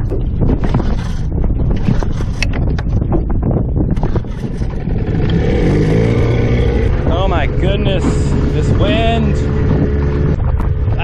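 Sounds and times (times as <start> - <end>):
outboard motor droning: 0.0 - 11.0
wind buffeting microphone: 0.0 - 11.0.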